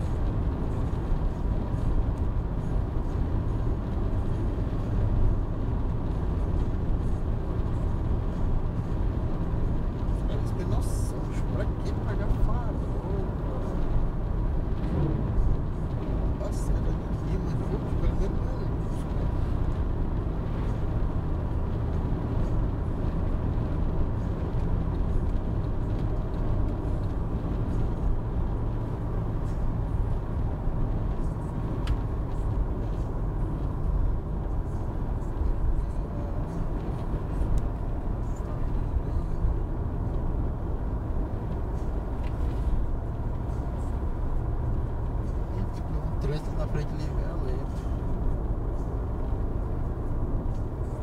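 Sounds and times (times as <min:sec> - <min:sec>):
car cabin engine and tyre drone: 0:00.0 - 0:51.0.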